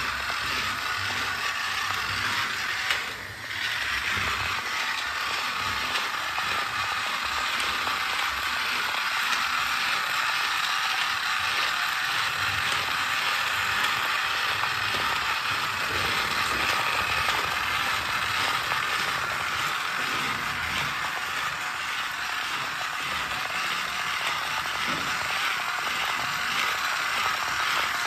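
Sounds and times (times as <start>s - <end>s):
toy car motor whirring: 0.0s - 28.0s.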